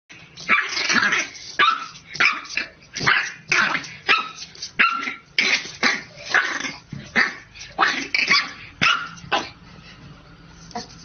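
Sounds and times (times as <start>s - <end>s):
puppy barking: 0.5s - 9.6s.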